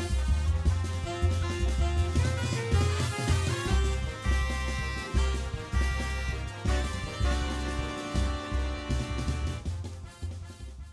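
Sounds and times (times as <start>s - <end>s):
music with heavy bass: 0.0s - 10.9s.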